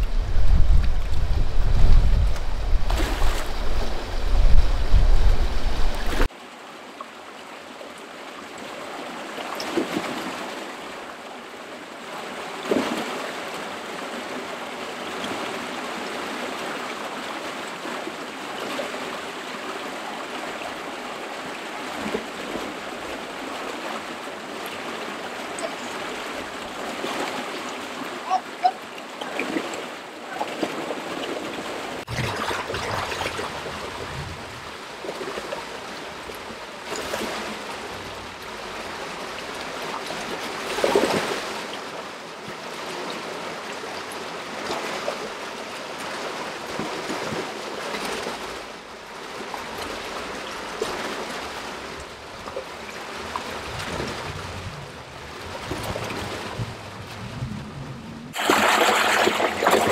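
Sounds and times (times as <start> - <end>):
water rushing through fish ladder: 0.0 - 6.6, 8.1 - 59.9.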